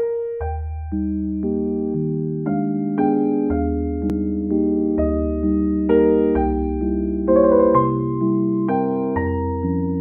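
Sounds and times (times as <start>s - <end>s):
keyboard chords: 0.0s - 10.0s.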